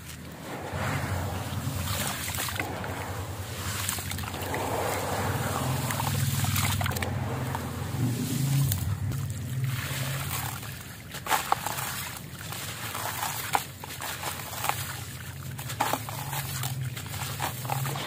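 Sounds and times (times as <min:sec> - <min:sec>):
small splashes: 0:00.0 - 0:18.0
water streaming off object: 0:00.0 - 0:18.0.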